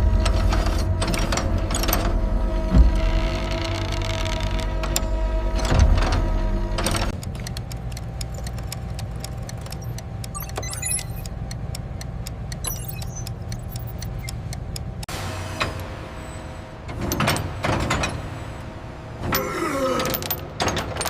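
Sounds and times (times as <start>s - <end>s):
factory machinery humming: 0.0s - 21.0s.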